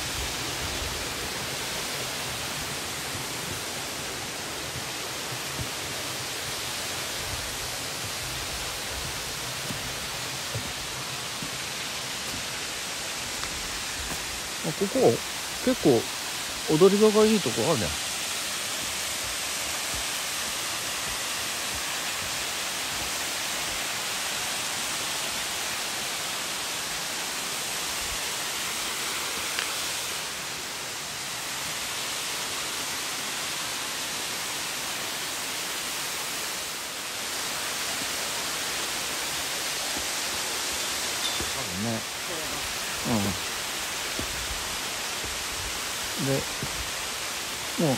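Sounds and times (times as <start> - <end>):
rush of falling water: 0.0 - 47.9.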